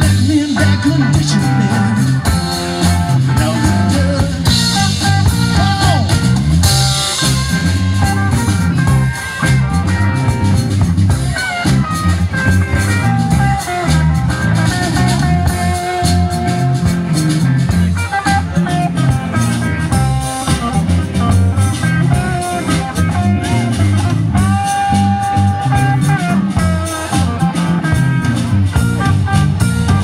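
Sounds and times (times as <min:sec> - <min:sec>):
blues-rock band playing: 0:00.0 - 0:30.0
electric guitar bending notes: 0:00.0 - 0:30.0.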